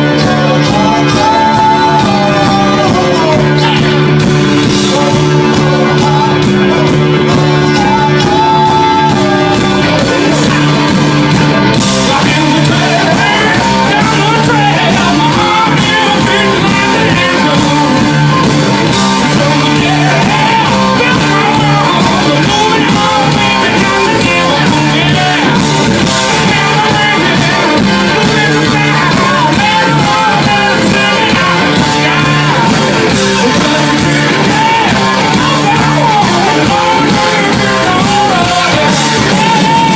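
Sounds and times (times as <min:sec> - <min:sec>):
hard rock band playing live: 0:00.0 - 0:39.9
person singing: 0:00.0 - 0:39.9.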